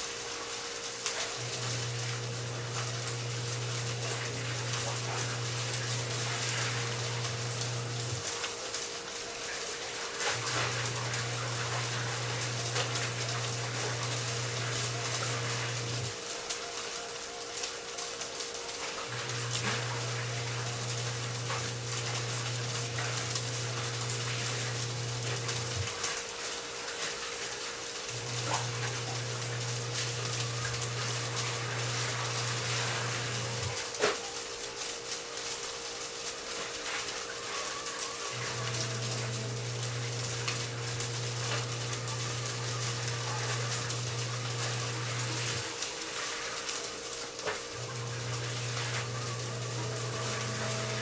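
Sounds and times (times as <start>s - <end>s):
electric fan running: 0.0s - 51.0s.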